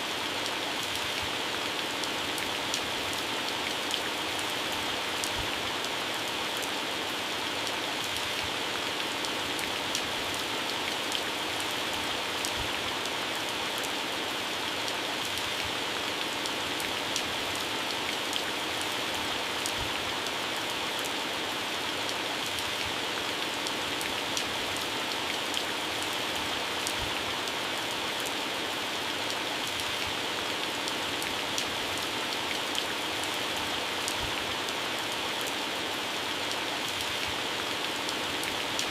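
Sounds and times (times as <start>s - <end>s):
heavy rain on plants: 0.0s - 38.9s.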